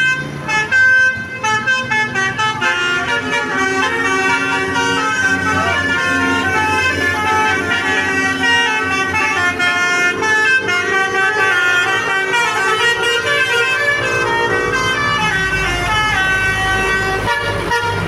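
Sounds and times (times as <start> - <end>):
musical bus air horn melody: 0.0 - 18.0.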